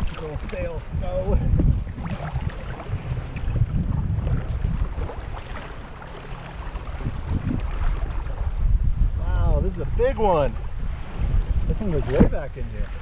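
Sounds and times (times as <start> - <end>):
water lapping and splashing: 0.0 - 13.0
wind buffeting microphone: 0.0 - 13.0.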